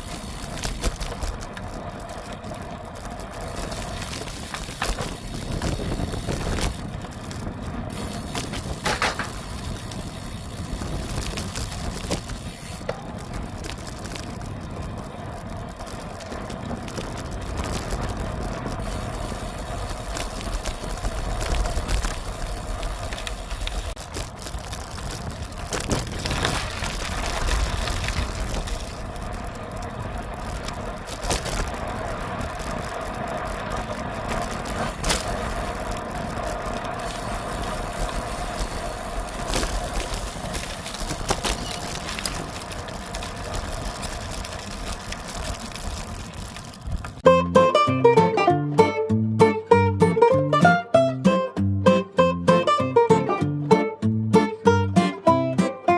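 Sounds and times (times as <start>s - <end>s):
wind buffeting microphone: 0.0s - 47.2s
bicycle tyres rolling on road: 0.0s - 55.9s.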